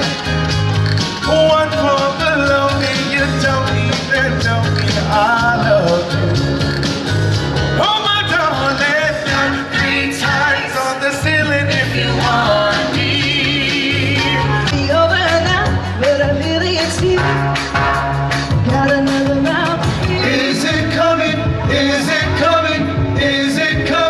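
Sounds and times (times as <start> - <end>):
rock and roll song: 0.0 - 24.0
lead singer: 1.0 - 24.0.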